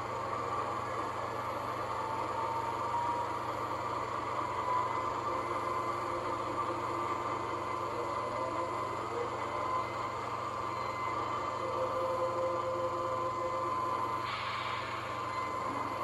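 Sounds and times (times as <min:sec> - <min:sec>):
diesel engine idling sound effect: 0:00.0 - 0:16.0.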